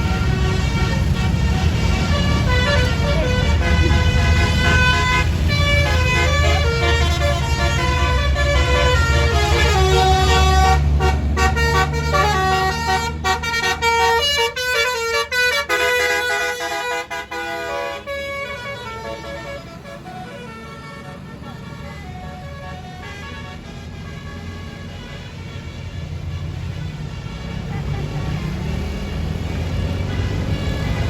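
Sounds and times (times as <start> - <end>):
bus engine rumble: 0.0 - 31.0
multi-tone bus horn melody: 0.0 - 31.0.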